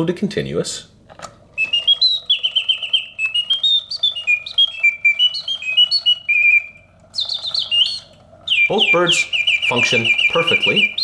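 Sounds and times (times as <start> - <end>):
clockwork mechanism clicking: 1.2 - 11.0
mechanical bird whistle chirping: 1.6 - 11.0.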